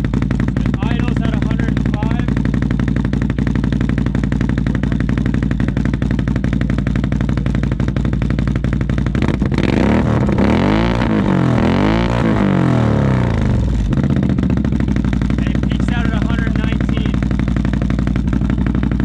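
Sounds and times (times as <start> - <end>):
atv engine idling and revving: 0.0 - 19.0.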